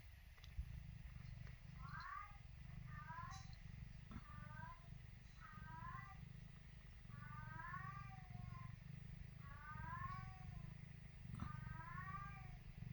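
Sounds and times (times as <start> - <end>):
kitten mewing: 0.7 - 12.9.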